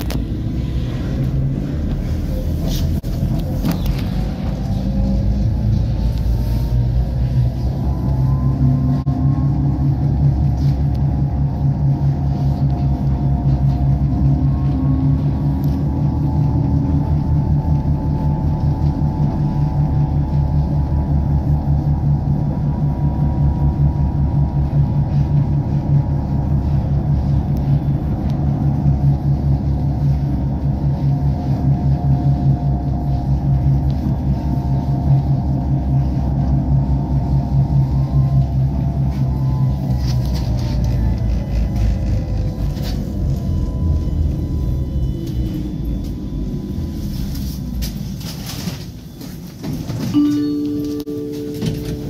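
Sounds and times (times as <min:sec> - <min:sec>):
steady electronic tone: 0:00.0 - 0:48.3, 0:50.1 - 0:52.0
pulsing hum: 0:00.0 - 0:52.0
tram rumbling on track: 0:00.0 - 0:52.0.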